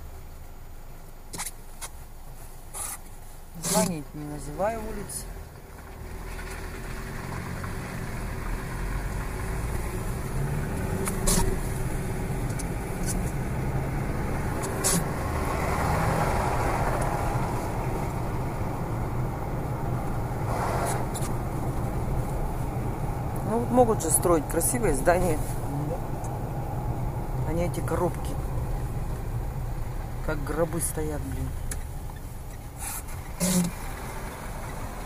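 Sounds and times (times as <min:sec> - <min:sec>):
car engine and tyres on road: 0:00.0 - 0:35.0.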